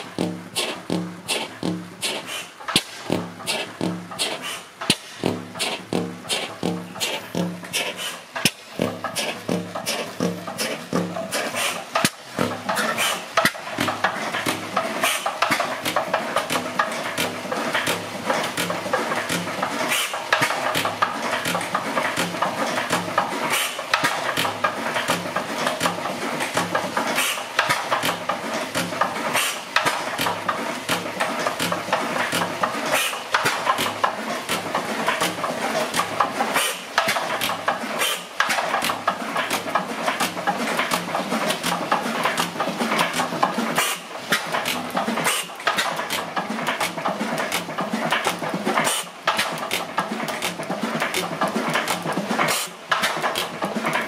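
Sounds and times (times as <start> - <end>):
hit-and-miss engine clattering: 0.0 - 54.0.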